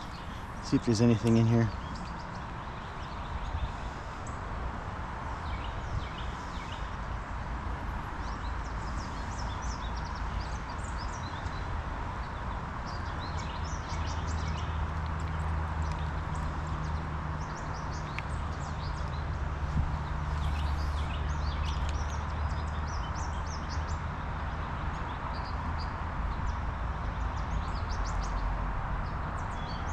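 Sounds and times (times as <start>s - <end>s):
small birds chirping: 0.0s - 4.5s, 5.3s - 28.4s
wind buffeting microphone: 0.0s - 24.1s.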